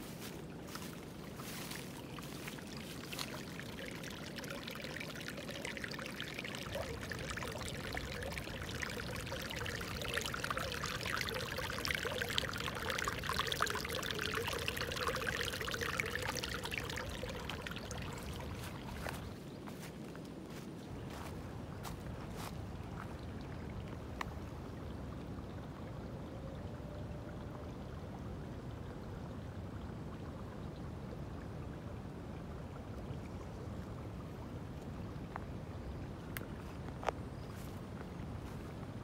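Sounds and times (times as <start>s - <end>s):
water trickling in ditch: 0.0s - 39.0s.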